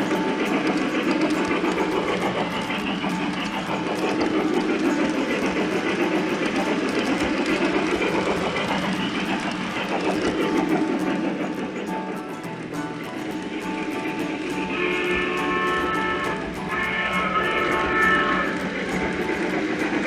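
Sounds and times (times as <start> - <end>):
model train rolling rumble: 0.0 - 20.0
wheels clicking over rail joints: 0.0 - 20.0.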